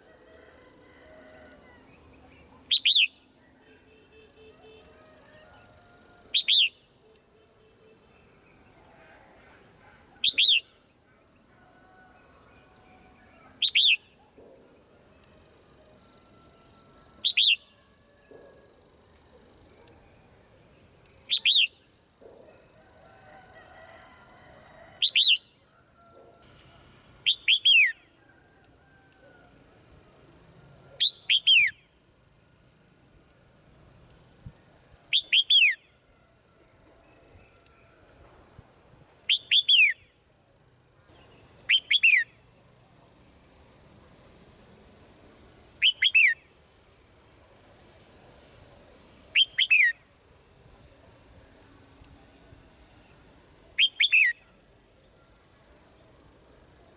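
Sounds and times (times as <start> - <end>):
steady high hiss: 0.0 - 56.9.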